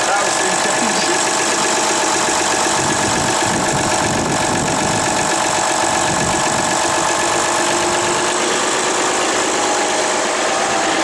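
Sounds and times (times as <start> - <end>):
diesel engine idling with knock: 0.0 - 11.0.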